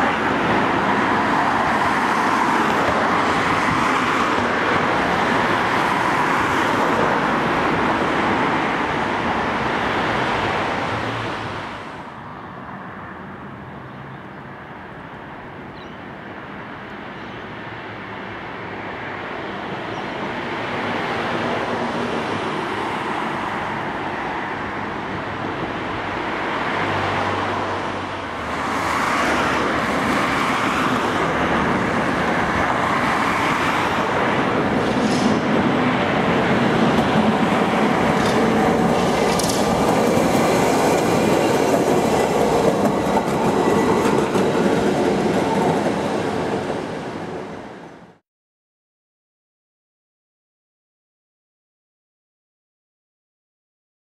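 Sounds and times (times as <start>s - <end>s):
road traffic: 0.0s - 48.2s
tram rolling on street track: 0.0s - 48.2s.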